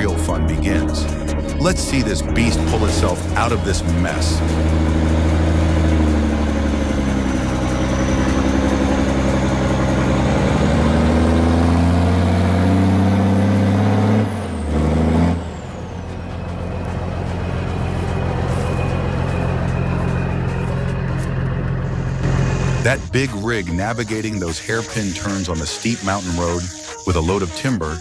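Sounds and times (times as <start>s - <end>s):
diesel truck engine under load: 0.0s - 24.3s.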